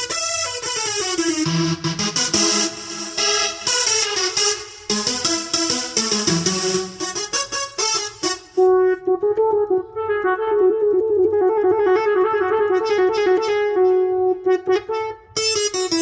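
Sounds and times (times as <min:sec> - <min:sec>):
bright sharp keyboard sound: 0:00.0 - 0:16.0
keyboard playing melody: 0:00.0 - 0:16.0.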